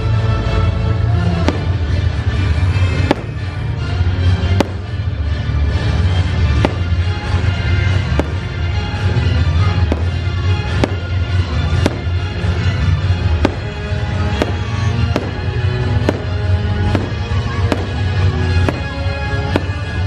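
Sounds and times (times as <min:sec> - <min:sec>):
music with heavy bass: 0:00.0 - 0:20.0
fireworks banging: 0:01.3 - 0:20.0.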